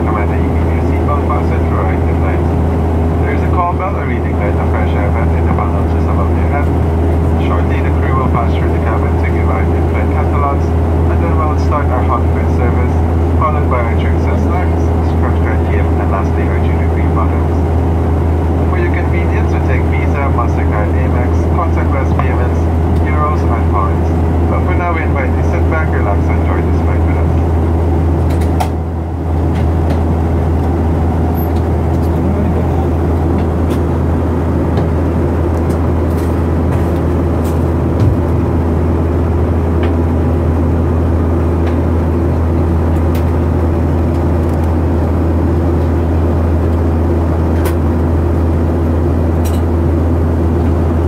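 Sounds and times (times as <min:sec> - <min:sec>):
jet engines droning: 0:00.0 - 0:51.0.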